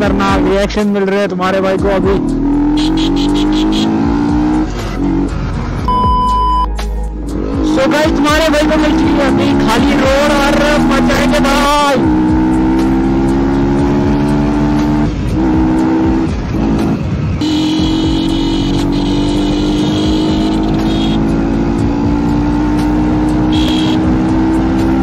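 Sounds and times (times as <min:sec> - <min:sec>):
motorcycle engine revving: 0:01.6 - 0:05.9, 0:07.3 - 0:25.0.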